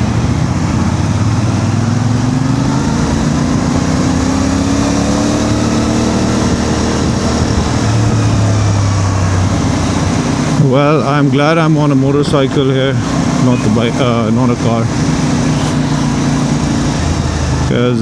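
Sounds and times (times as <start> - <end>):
motorcycle engine running: 0.0 - 18.0
traffic engine and road noise: 0.0 - 18.0.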